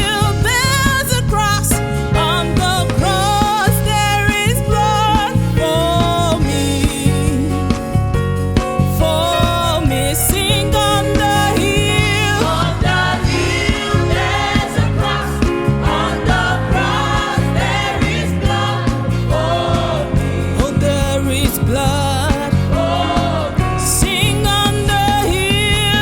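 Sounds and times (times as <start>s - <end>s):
band with bass and drums: 0.0s - 26.0s
youth choir singing gospel: 0.0s - 26.0s.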